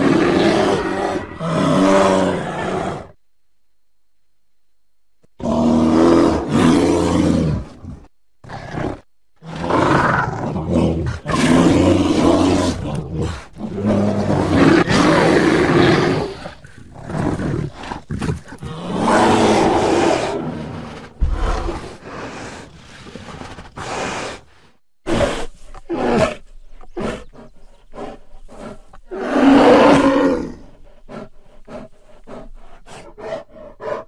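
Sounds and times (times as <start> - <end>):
bear growling and roaring: 0.0 - 3.2, 5.4 - 24.5, 25.1 - 34.0.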